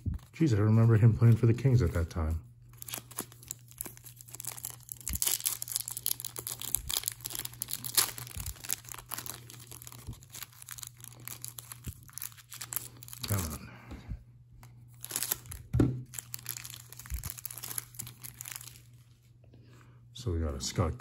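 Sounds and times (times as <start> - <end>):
plastic wrapper crinkling and tearing: 0.0 - 13.6, 14.6 - 19.3.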